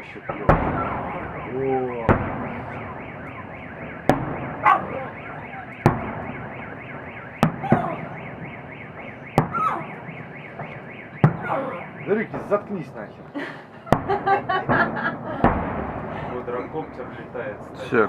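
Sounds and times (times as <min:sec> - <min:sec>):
car alarms wailing: 0:00.0 - 0:18.0
firework bangs: 0:00.0 - 0:18.0.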